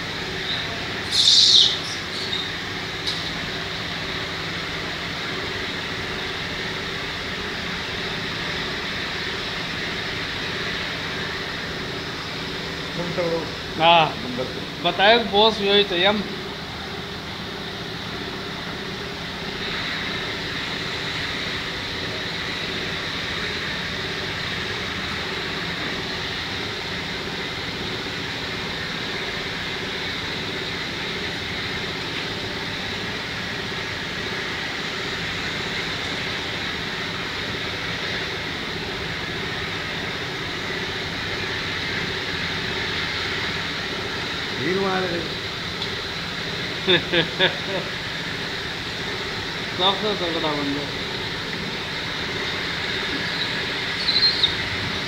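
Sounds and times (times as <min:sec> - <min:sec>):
high whine: 0:00.0 - 0:55.0
machine hum: 0:00.0 - 0:55.0.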